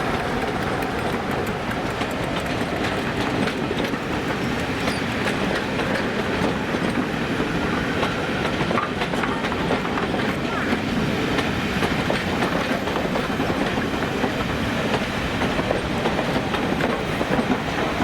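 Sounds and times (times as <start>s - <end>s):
train rumbling: 0.0s - 18.0s
train wheels clattering over rail joints: 0.0s - 18.0s.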